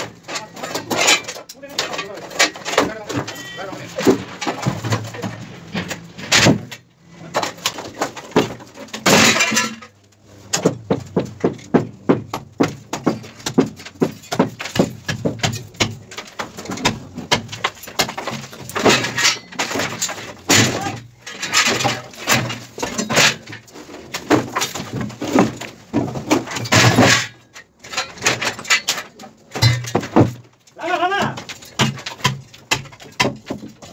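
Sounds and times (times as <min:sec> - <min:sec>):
clattering crashes: 0:00.0 - 0:33.9
wooden and metal knocks: 0:00.0 - 0:33.9.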